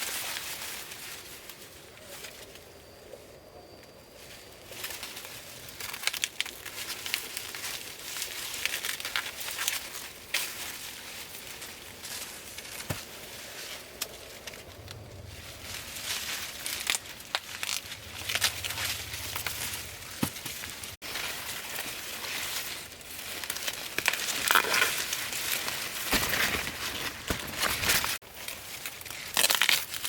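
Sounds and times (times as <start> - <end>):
plant leaves rustling and crackling: 0.0 - 3.0, 4.1 - 30.0.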